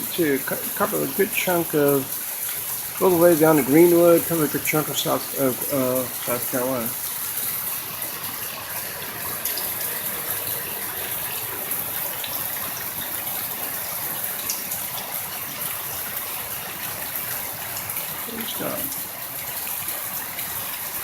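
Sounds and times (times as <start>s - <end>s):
torrential rain pouring: 0.0s - 21.0s.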